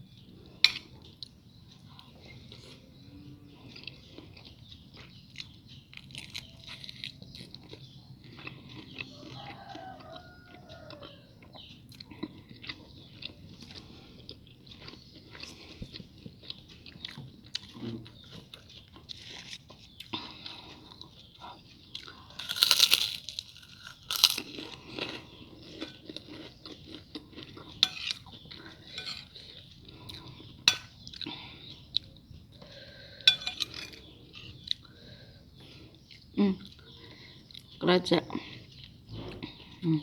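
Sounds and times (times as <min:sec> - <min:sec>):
person chewing crisp food: 0:00.1 - 0:37.8.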